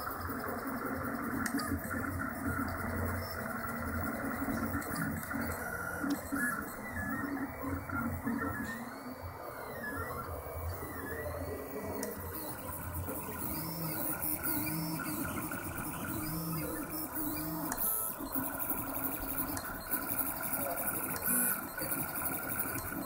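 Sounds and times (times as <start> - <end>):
steady mechanical hum: 0.0 - 23.0
stepper motors whining: 0.0 - 23.0.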